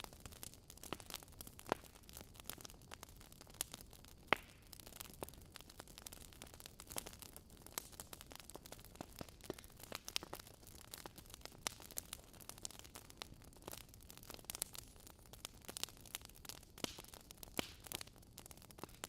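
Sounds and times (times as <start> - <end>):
soft fire hiss: 0.0 - 19.0
wood fire crackling: 0.0 - 19.0.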